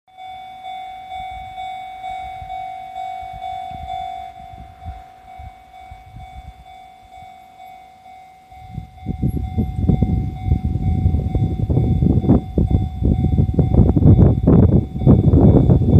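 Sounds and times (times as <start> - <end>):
freight train passing: 0.1 - 15.9
level-crossing warning bell: 0.1 - 15.9.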